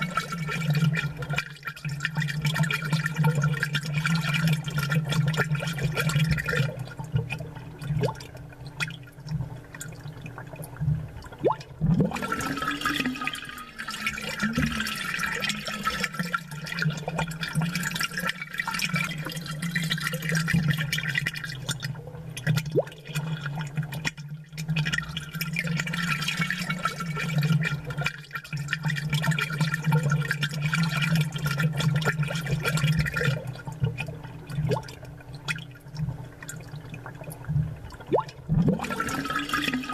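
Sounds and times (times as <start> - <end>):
low pump hum: 0.0 - 39.9
water bubbling and trickling: 0.0 - 39.9.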